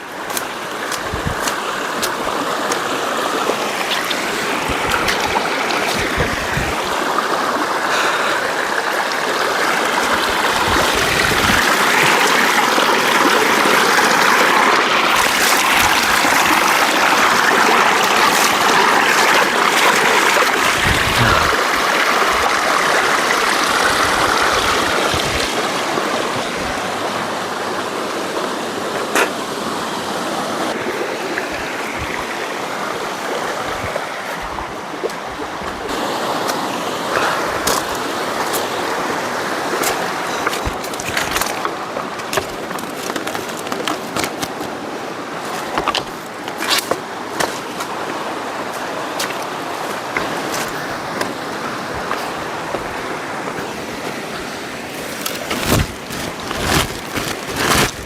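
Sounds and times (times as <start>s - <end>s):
water rushing in a stream: 0.0s - 58.0s.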